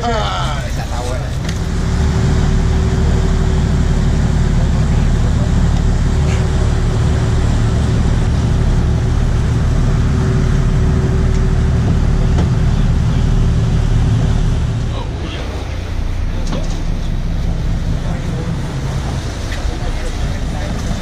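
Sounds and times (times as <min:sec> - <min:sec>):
boat engines droning: 0:00.0 - 0:21.0
rush of wind and water: 0:00.0 - 0:21.0.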